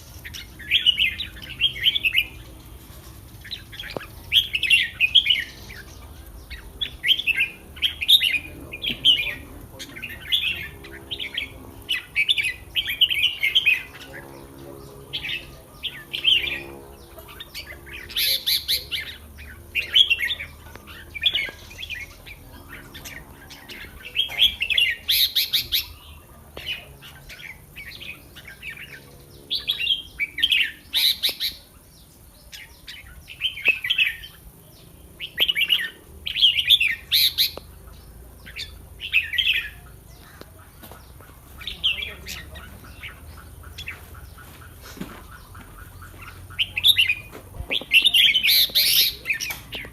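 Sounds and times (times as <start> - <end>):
birds singing chattering phrases: 0.0 - 49.9.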